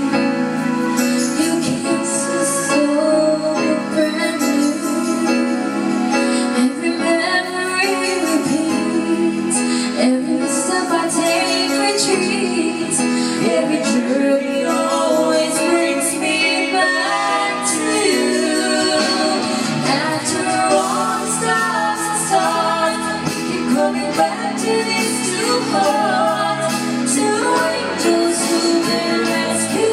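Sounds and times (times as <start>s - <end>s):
woman singing: 0.9s - 29.9s.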